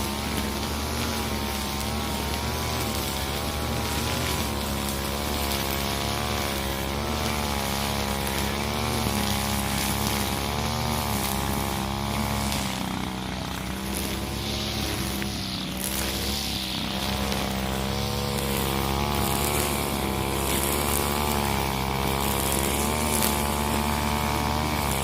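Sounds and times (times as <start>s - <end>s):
brushcutter engine at high speed: 0.0s - 25.0s.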